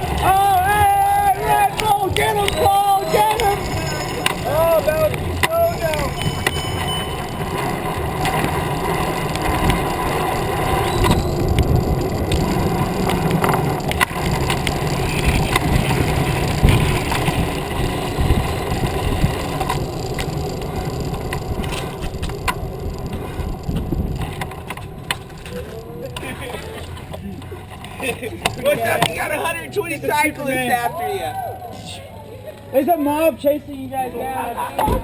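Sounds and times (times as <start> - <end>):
bicycle rattling clicks: 0.0 - 29.1
bicycle tyres rolling: 0.0 - 35.0.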